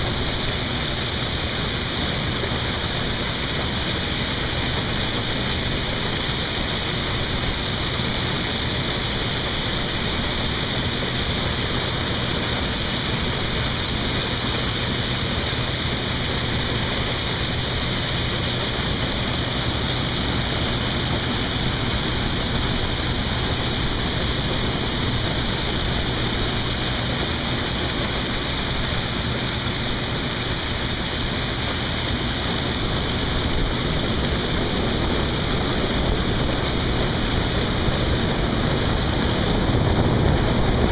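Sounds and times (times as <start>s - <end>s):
harvest machine running: 0.0s - 40.9s.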